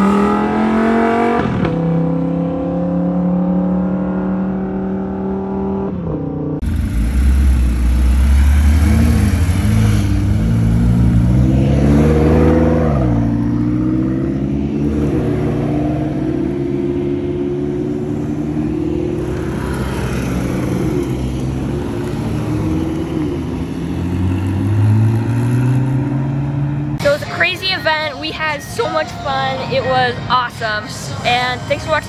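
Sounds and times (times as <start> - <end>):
car engine revving: 0.0 - 27.2.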